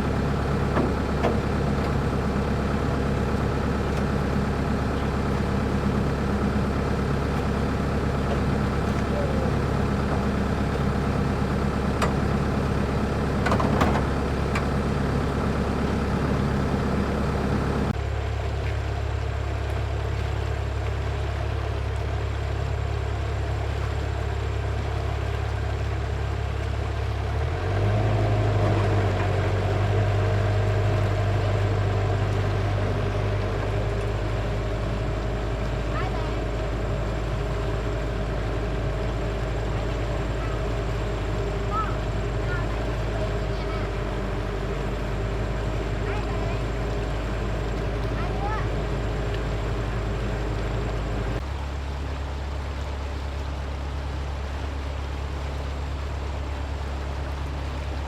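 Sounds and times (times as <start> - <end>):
engine running with low drone: 0.0 - 58.0.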